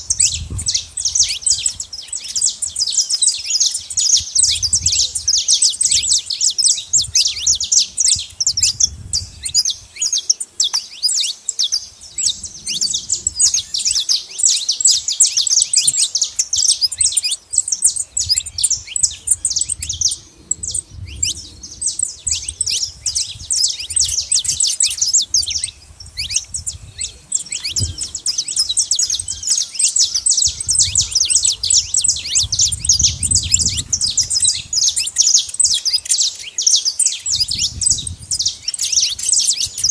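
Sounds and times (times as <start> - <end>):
finch chirping and singing: 0.0 - 39.9.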